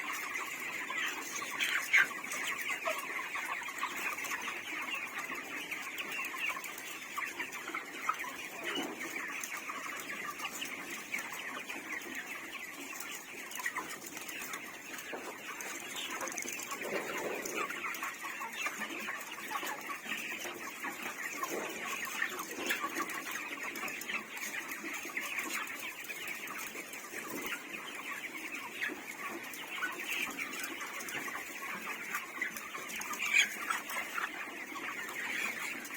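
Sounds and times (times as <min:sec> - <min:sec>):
chickens clucking and cheeping: 0:00.0 - 0:35.9.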